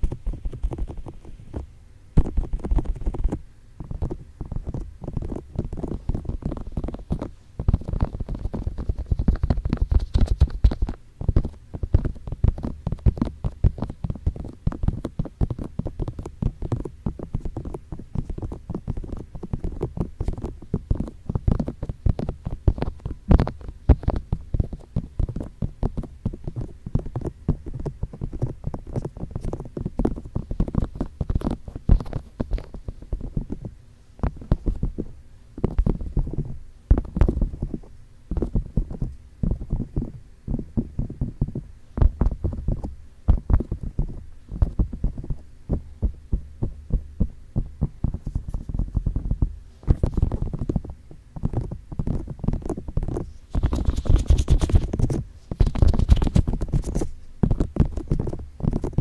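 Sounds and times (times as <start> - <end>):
fingertips tapping on microphone: 0.0 - 59.0.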